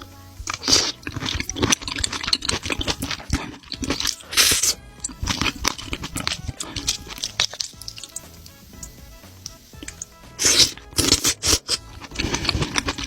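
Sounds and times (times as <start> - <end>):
background music: 0.0 - 13.0
crunching and chewing: 0.0 - 13.0.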